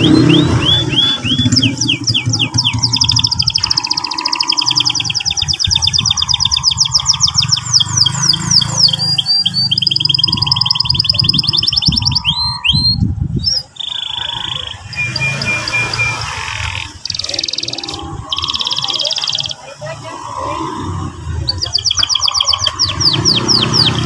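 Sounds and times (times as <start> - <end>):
canary singing trills: 0.0 - 24.0.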